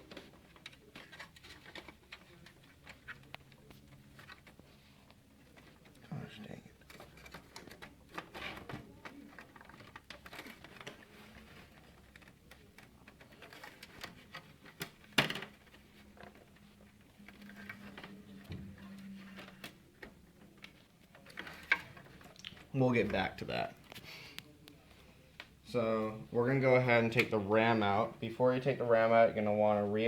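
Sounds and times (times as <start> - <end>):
plastic clicks and rattles of fan: 0.0 - 6.1, 6.8 - 25.6.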